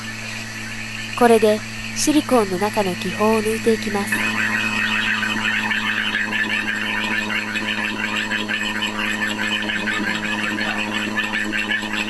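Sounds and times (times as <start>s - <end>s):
rapid crackling: 0.0s - 12.0s
vacuum pump humming: 0.0s - 12.0s.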